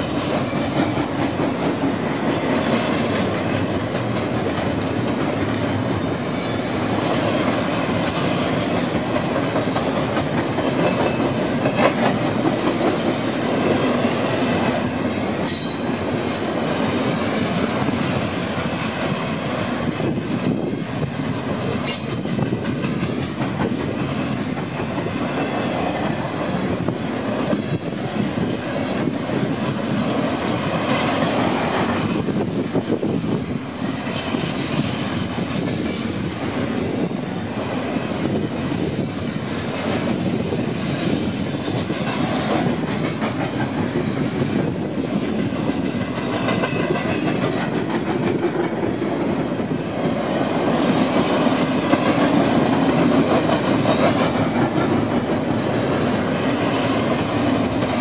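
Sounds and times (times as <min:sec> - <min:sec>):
freight train rumble: 0:00.0 - 0:58.0
steel wheels clattering over rails: 0:00.0 - 0:58.0.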